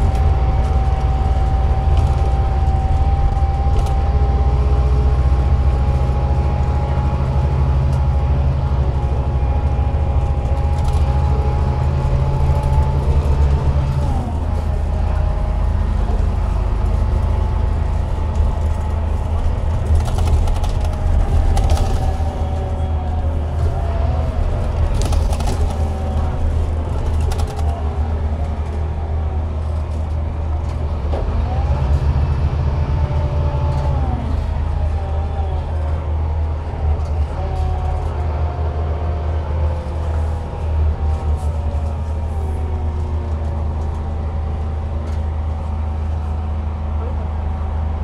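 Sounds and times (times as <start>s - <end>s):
whining drivetrain tones: 0.0s - 47.9s
bus engine drone: 0.0s - 48.0s.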